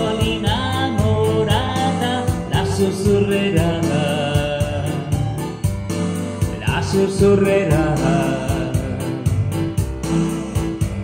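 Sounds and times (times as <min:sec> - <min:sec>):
man singing a ballad: 0:00.0 - 0:09.9
instrumental backing track: 0:00.0 - 0:11.0.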